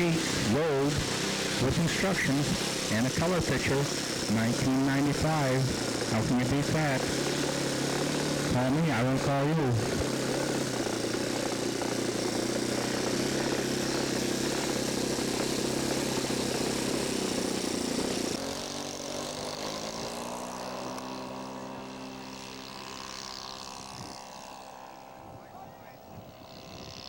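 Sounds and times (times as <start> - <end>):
model airplane engine running: 0.0 - 27.0.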